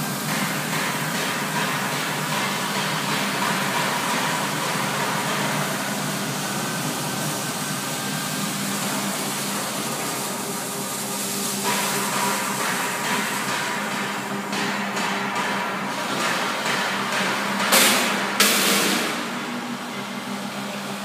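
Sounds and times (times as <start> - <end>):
dough mixer hiss: 0.0 - 21.0.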